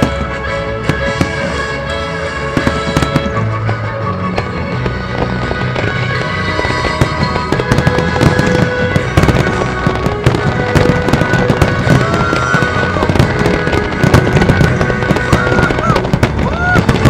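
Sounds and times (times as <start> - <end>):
fireworks bangs and crackling: 0.0 - 17.0
music with held tones: 0.0 - 17.0.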